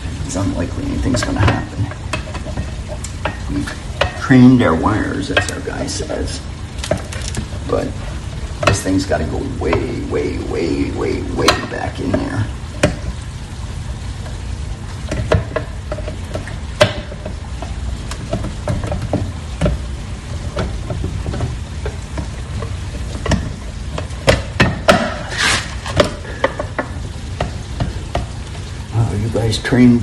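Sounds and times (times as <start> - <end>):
electrical wires crackling and rustling: 0.0 - 30.0.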